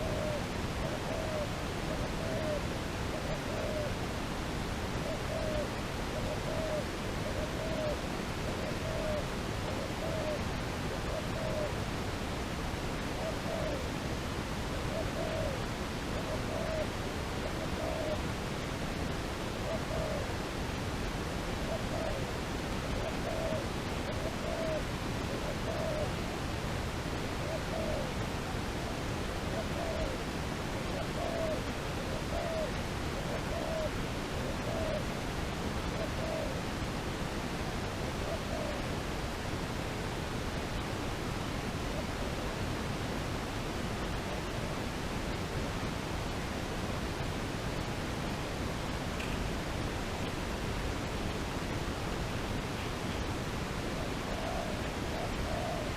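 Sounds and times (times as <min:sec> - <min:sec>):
dove cooing: 0:00.0 - 0:40.1, 0:46.6 - 0:55.9
steady hiss: 0:00.0 - 0:55.9.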